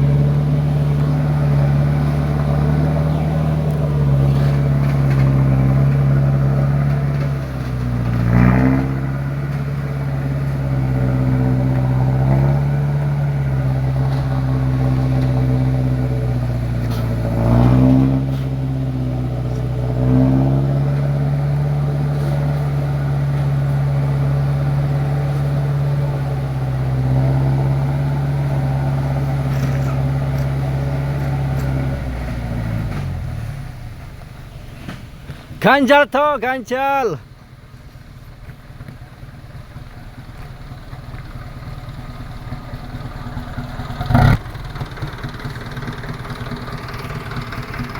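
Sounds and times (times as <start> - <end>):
truck engine revving uphill: 0.0 - 47.9.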